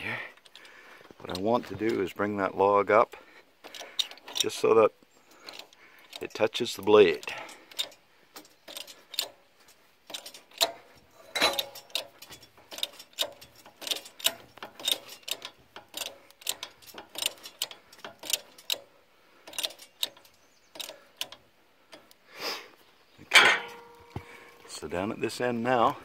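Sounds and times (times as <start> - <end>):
jack cranking metallic clicks: 0.0 - 2.5, 3.1 - 22.2.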